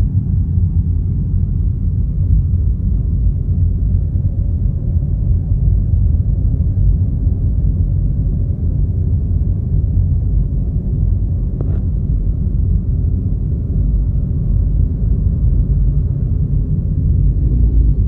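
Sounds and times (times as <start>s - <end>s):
car cabin road and engine rumble: 0.1s - 18.0s.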